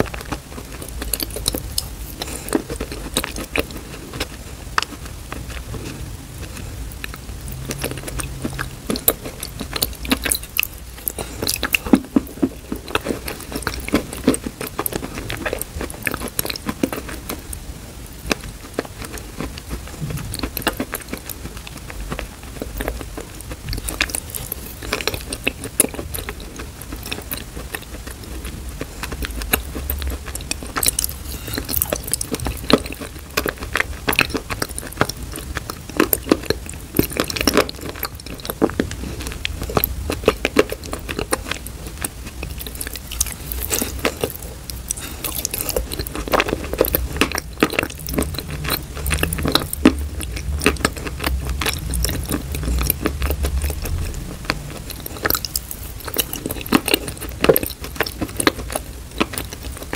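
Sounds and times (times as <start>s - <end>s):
wet chewing mouth sounds: 0.0s - 59.9s.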